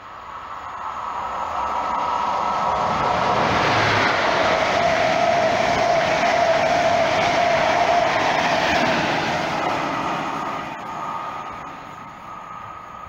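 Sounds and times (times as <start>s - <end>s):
thin steady whine: 0.0s - 13.0s
train running past: 0.0s - 13.0s.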